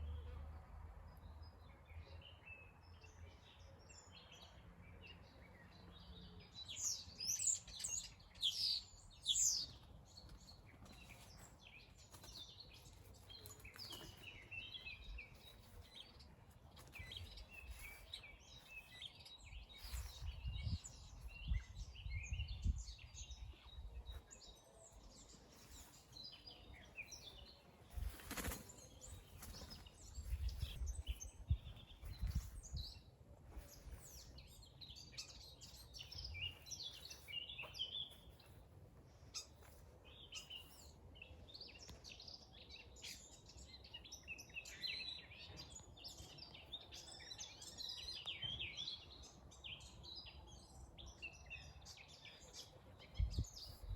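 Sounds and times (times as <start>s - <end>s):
songbirds singing and chirping: 0.0s - 53.9s.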